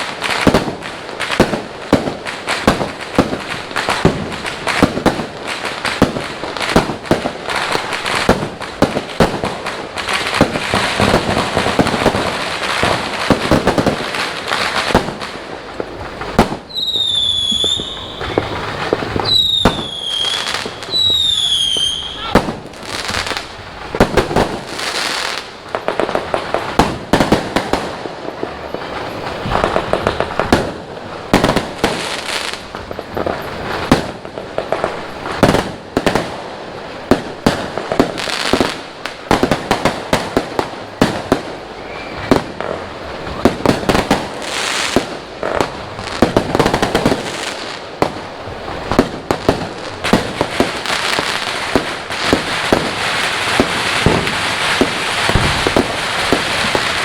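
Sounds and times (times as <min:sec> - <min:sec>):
distant fireworks explosions: 0:00.0 - 0:57.0
firecracker bangs: 0:00.0 - 0:57.0
firecrackers crackling: 0:00.0 - 0:57.0.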